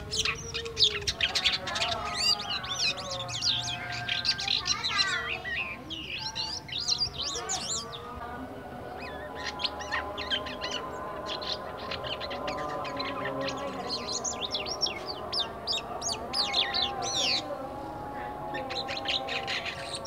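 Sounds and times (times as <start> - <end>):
starling chirping and whistling: 0.0 - 8.1, 8.9 - 17.6.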